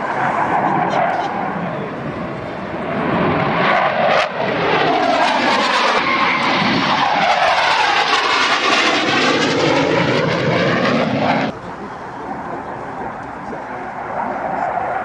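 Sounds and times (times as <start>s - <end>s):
jet aircraft passing low: 0.0s - 15.0s.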